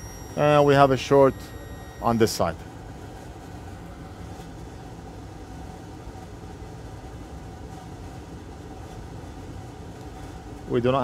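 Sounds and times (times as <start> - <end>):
fans running: 0.0 - 11.0
hum of workbench equipment: 0.0 - 11.0.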